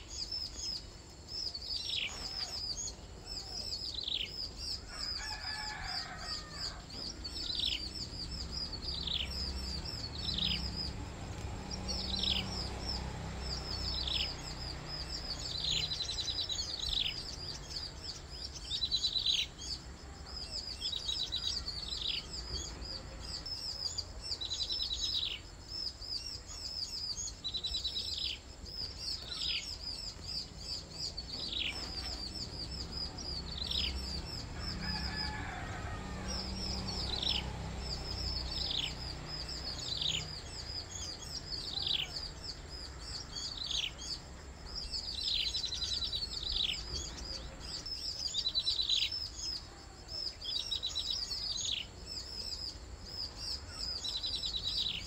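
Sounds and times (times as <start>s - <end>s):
small birds calling: 0.0s - 55.0s.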